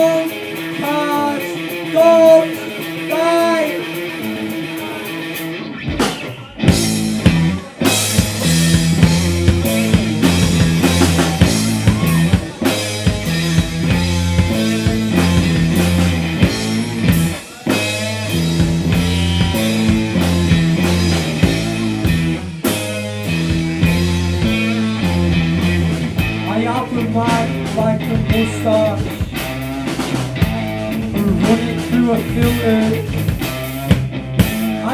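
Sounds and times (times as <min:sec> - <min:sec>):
drum kit: 0:00.0 - 0:34.9
electric bass: 0:00.0 - 0:34.9
lead electric guitar: 0:00.0 - 0:34.9.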